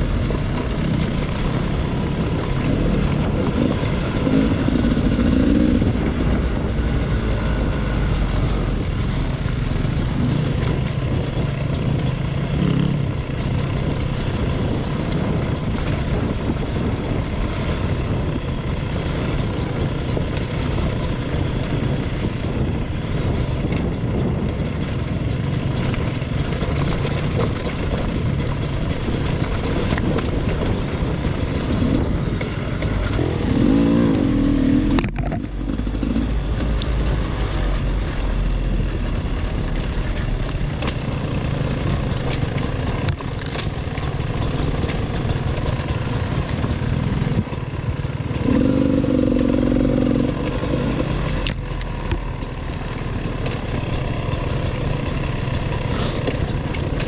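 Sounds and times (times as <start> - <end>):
dirt bike engine running: 0.0 - 57.0
wind noise: 0.0 - 57.0.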